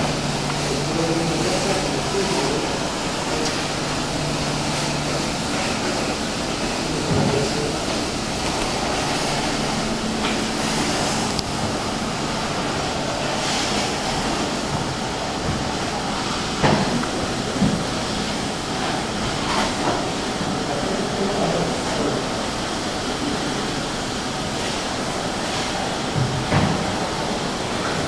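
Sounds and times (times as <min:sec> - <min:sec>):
ocean surf: 0:00.0 - 0:28.0.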